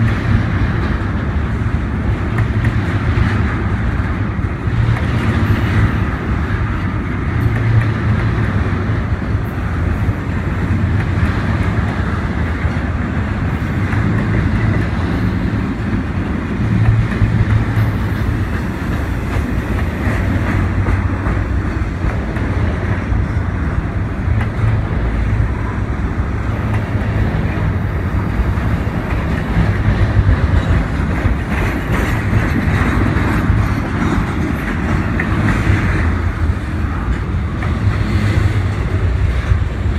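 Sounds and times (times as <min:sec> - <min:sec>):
train rumbling on rails: 0:00.0 - 0:39.9
wheels clicking over rail joints: 0:00.0 - 0:39.9.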